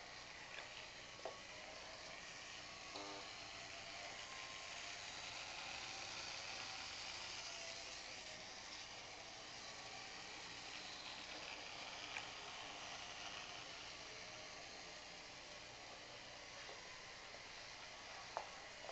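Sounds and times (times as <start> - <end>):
model motors whirring: 0.0 - 18.9.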